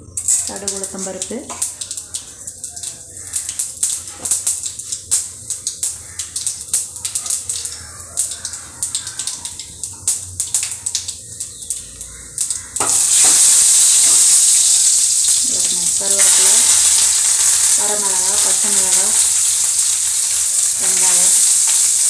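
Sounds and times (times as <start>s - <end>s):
loud sizzle of leaves in oil: 0.0s - 22.0s
seeds crackling in hot oil: 0.0s - 22.0s.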